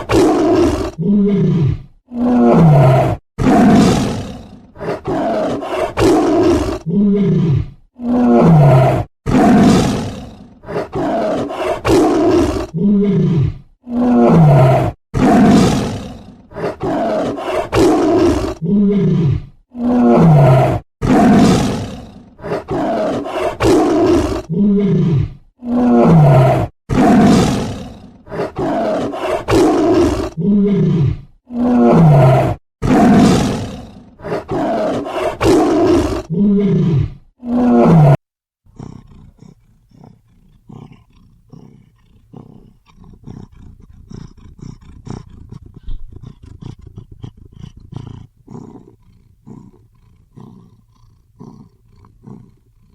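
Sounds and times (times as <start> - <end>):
big cat roaring and growling: 0.0 - 52.6.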